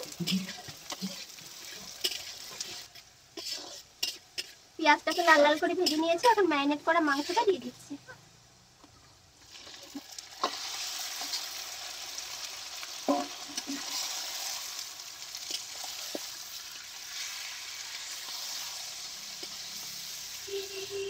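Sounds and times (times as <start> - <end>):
meat sizzling in hot oil: 0.0 - 7.8, 9.3 - 21.0.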